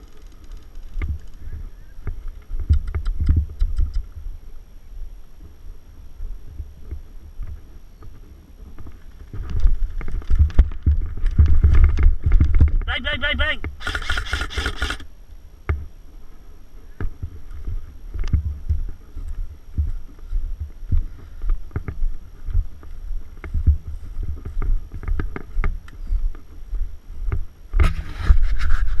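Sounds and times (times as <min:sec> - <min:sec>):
gusty wind rumble on microphone: 0:00.8 - 0:12.9, 0:15.7 - 0:29.0.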